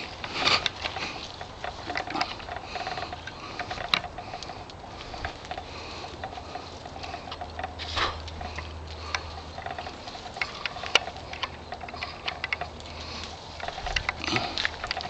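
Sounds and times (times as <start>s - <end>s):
leaves and twigs rustling: 0.0s - 15.0s
small clicks and snaps: 0.0s - 15.0s.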